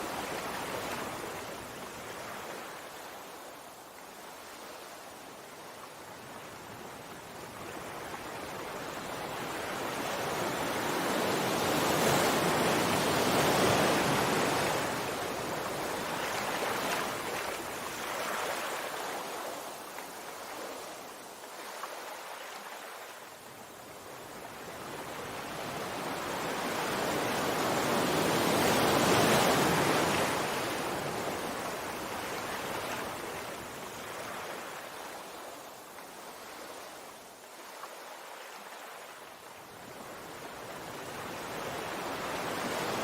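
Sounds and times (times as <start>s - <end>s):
sea waves washing onto shore: 0.0s - 43.0s.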